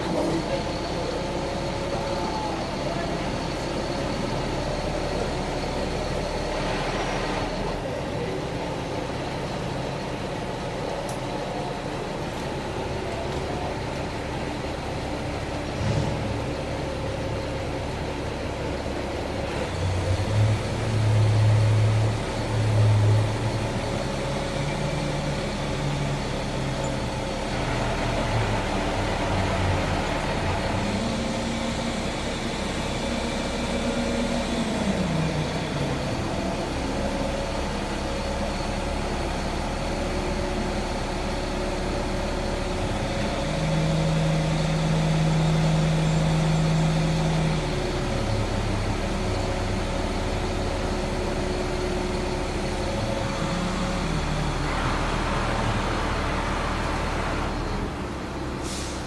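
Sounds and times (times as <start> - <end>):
crane engine revving: 0.0 - 59.0.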